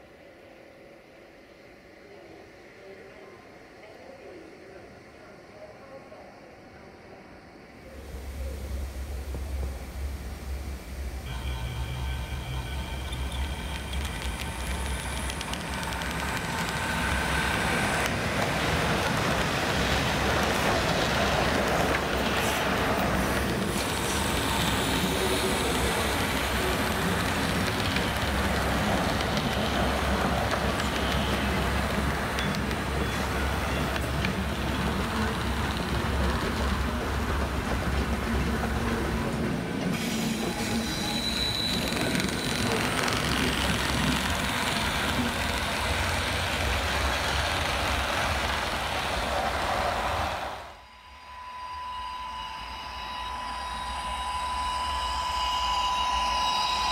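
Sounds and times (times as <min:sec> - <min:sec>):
model train running on track: 0:07.9 - 0:56.9.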